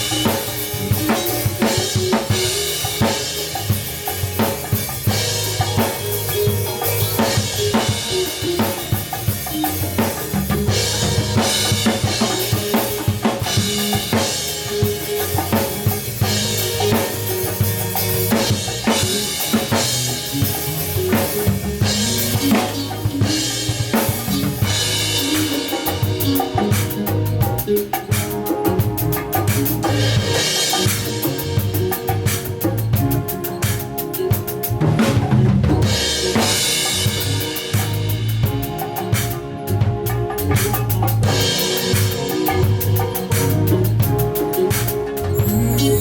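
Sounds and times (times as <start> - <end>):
drum kit playing a groove: 0.0 - 46.0
low bass notes: 0.0 - 46.0.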